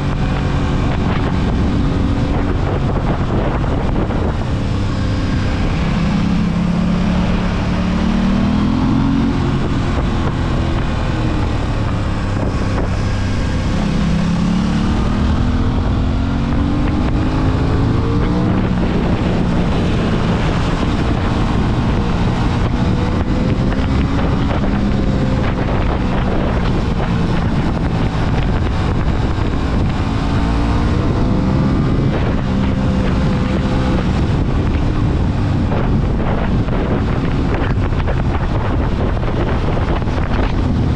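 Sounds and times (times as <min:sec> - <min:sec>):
motorcycle engine revving: 0:00.0 - 0:40.9
wind rushing over microphone: 0:00.0 - 0:40.9.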